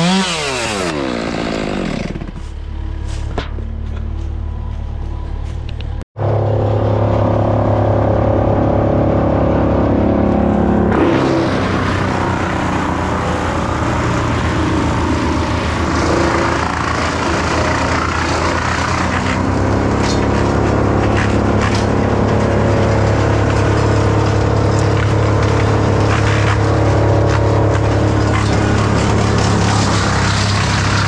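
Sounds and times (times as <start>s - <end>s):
loud rough noise: 0.0s - 3.7s, 6.2s - 31.0s
engine running: 0.0s - 31.0s.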